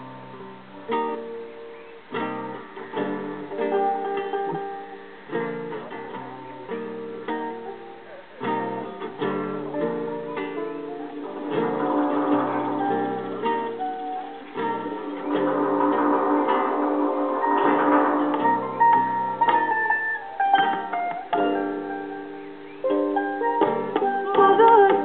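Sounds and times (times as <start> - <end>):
acoustic band playing live: 0.0 - 25.0
strummed acoustic guitar: 0.0 - 25.0.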